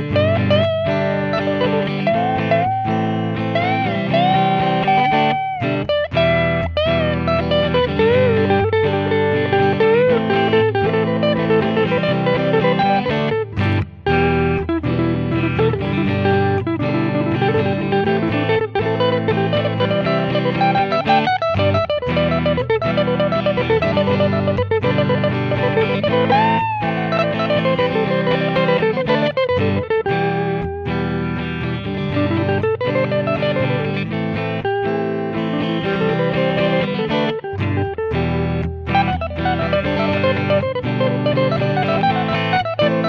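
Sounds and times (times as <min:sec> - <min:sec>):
electric guitar lead melody: 0:00.0 - 0:43.0.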